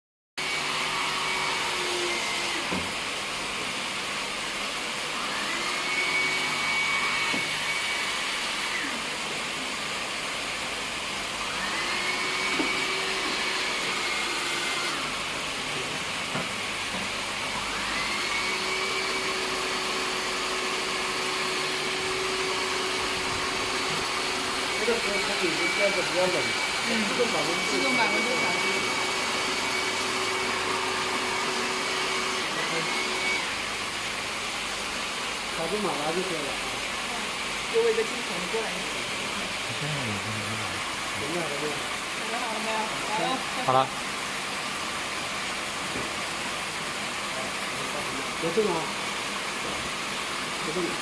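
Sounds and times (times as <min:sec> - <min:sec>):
hair dryer running: 0:00.4 - 0:39.8, 0:40.4 - 0:51.0.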